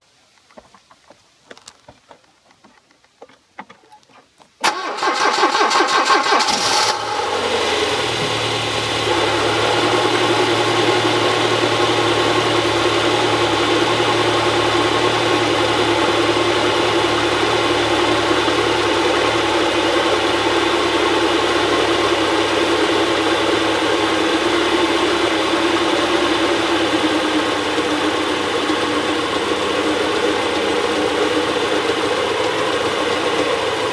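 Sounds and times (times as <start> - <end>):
car engine cranking and idling: 1.5 - 33.9.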